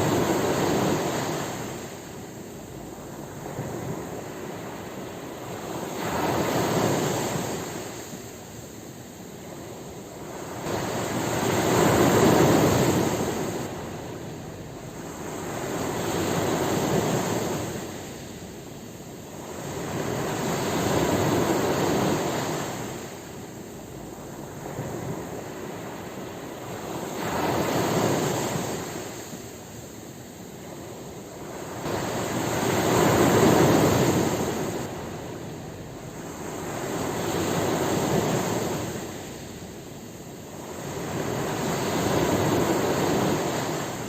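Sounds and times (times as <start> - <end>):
sea waves breaking on shore: 0.0 - 44.0.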